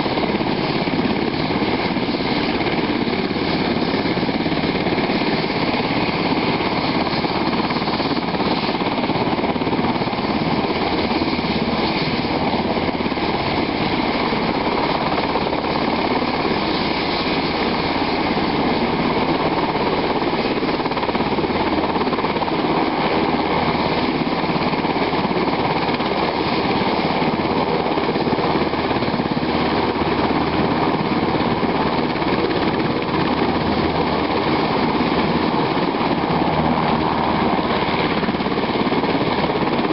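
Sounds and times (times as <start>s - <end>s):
helicopter rotor chop: 0.0s - 39.9s
helicopter turbine whine: 0.0s - 39.9s.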